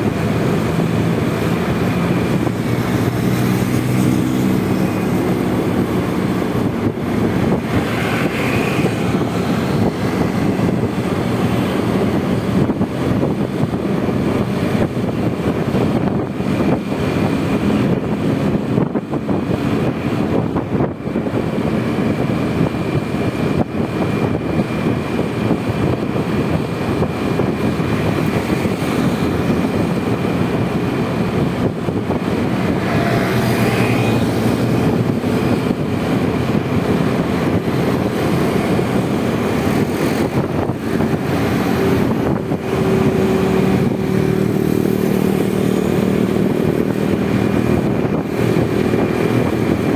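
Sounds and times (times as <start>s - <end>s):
scooter engine running: 0.0s - 49.9s
wind and road noise: 0.0s - 49.9s.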